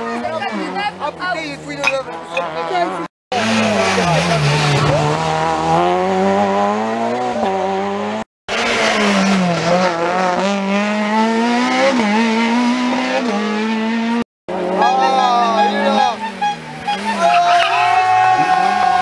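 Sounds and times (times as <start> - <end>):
rally car engines revving: 0.0 - 19.0.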